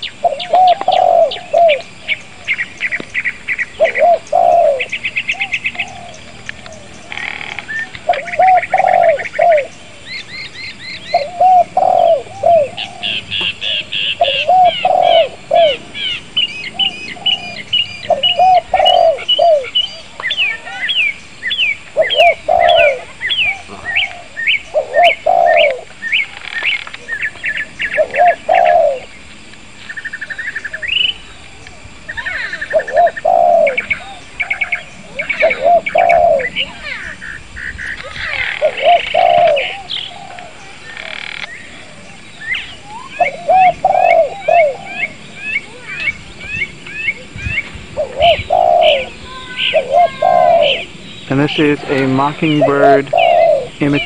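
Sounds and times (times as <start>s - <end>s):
dove cooing: 0.0s - 29.2s, 30.3s - 37.2s, 38.0s - 54.0s
birds chirping and trilling: 0.0s - 54.0s.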